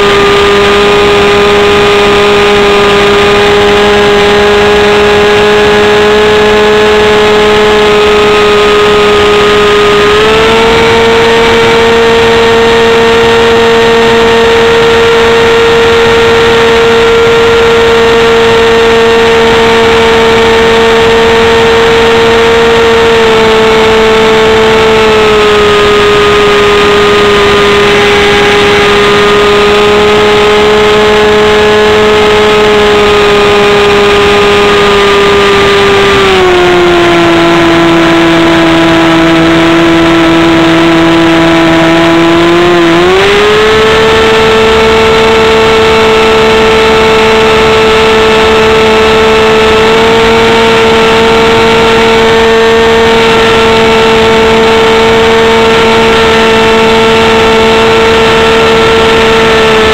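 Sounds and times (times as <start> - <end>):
model plane motor whine: 0.0 - 59.9.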